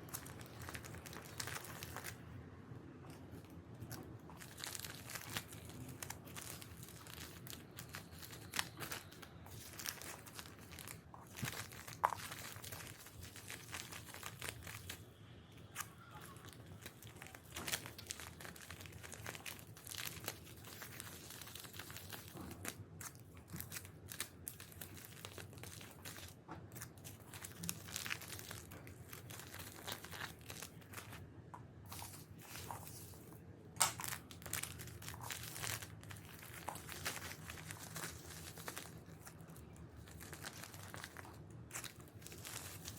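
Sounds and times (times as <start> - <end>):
packaging crinkling and tearing: 0.0 - 2.4, 3.1 - 42.9.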